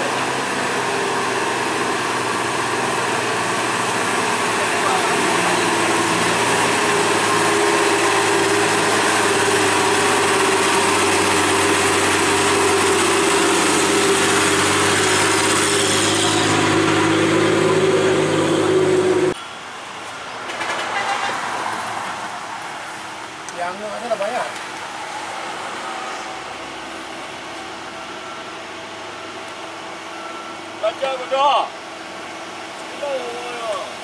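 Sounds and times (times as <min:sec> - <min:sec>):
truck diesel engine labouring: 0:00.0 - 0:34.0.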